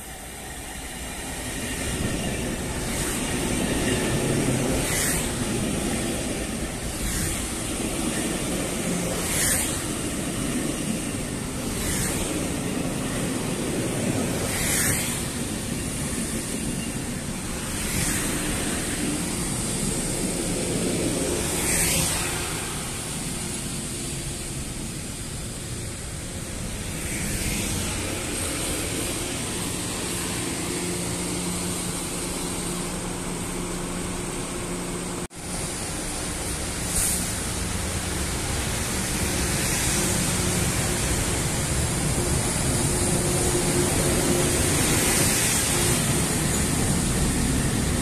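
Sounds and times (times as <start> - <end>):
train equipment humming: 0.0 - 48.0.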